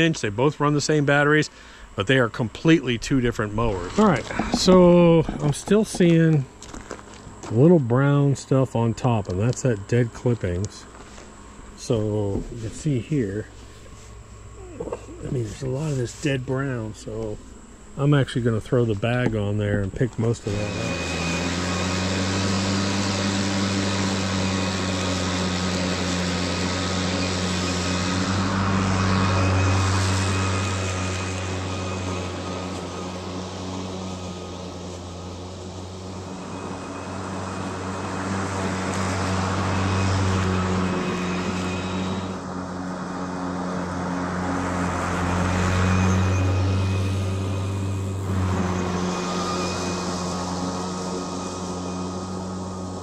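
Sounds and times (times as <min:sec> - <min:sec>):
electric lawn mower running: 0:00.0 - 0:53.0.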